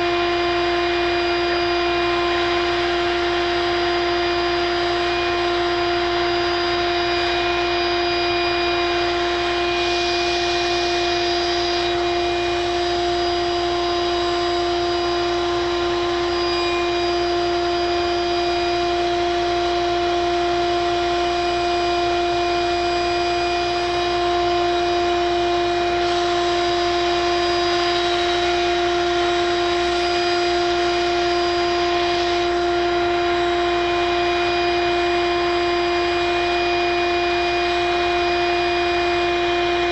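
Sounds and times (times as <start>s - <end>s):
machine motor humming with hiss: 0.0s - 39.9s.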